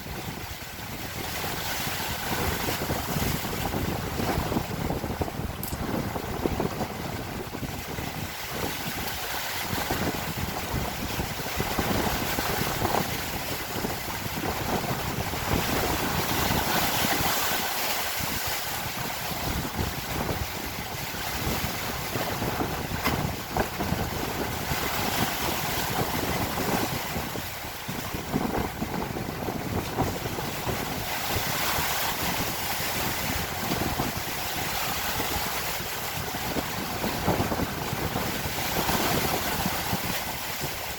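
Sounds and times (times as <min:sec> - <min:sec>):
strong wind buffeting microphone: 0:00.0 - 0:40.9
waves washing: 0:00.0 - 0:40.9.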